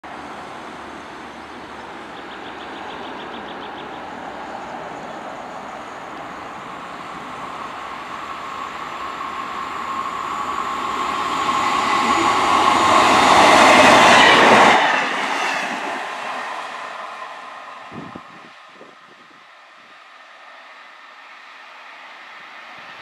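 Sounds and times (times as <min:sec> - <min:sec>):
diesel railcar running noise: 0:00.0 - 0:23.0.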